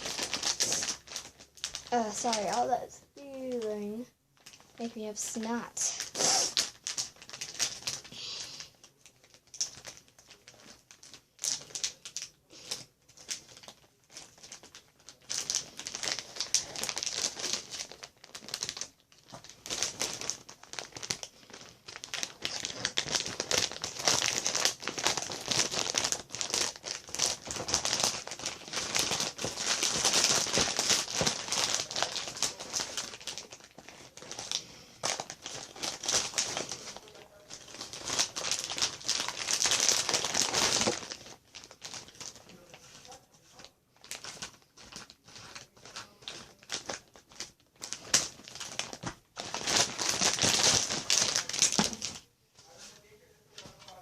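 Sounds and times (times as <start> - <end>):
plastic packaging crinkling: 0.0 - 54.0.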